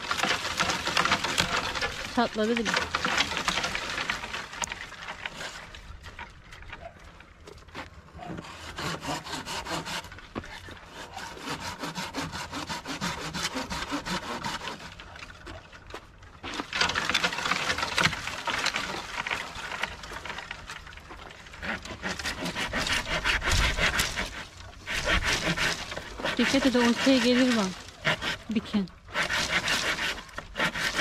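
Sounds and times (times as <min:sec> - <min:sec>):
hand saw cutting branch: 0:00.0 - 0:05.7, 0:08.2 - 0:15.6, 0:16.4 - 0:20.6, 0:21.4 - 0:31.0.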